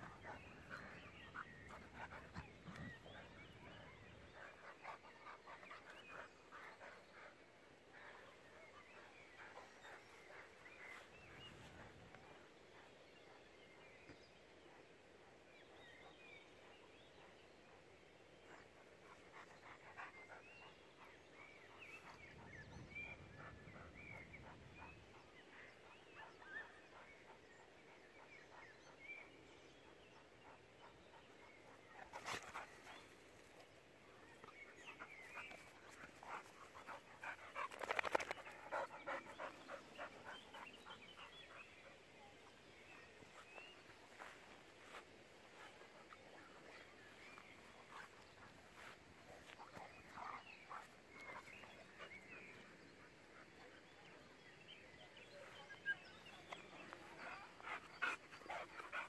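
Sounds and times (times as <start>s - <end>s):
dogs panting: 0.0s - 13.5s, 17.2s - 59.0s.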